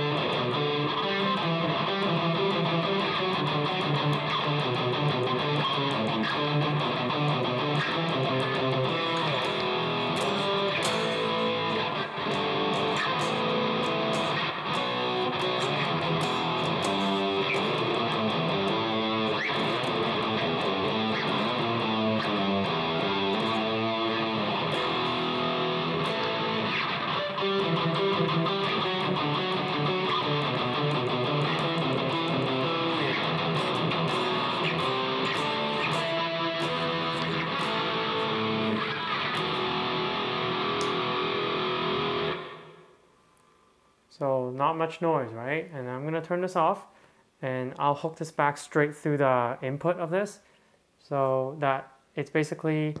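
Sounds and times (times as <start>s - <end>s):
electric guitar chords and riffs: 0.0s - 43.1s.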